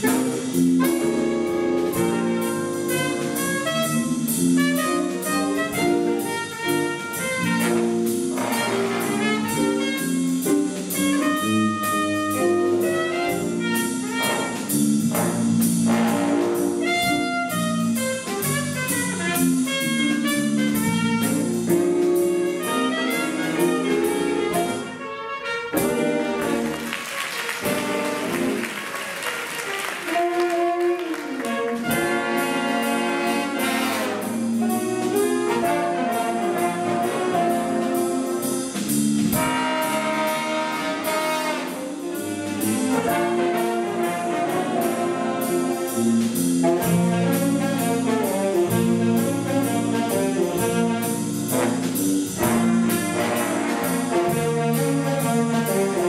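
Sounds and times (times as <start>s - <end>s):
drum kit cymbal beat: 0.0s - 25.0s, 25.6s - 56.0s
jazz big band playing: 0.0s - 56.0s.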